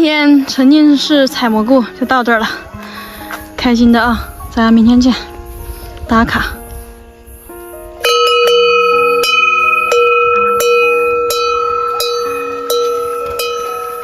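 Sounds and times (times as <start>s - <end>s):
bell-like music notes: 0.0s - 14.0s.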